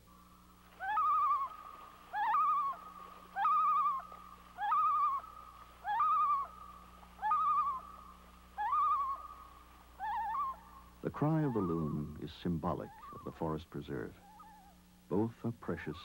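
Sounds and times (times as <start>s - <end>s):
loon calling: 0.1s - 15.1s.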